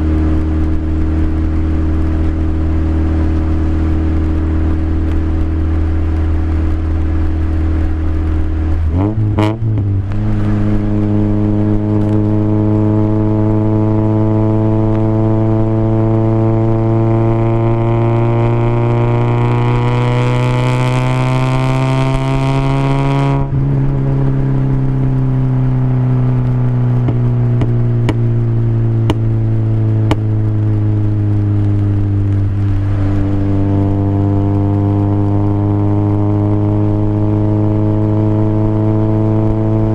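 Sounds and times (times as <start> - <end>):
four-cylinder car engine: 0.0 - 39.9.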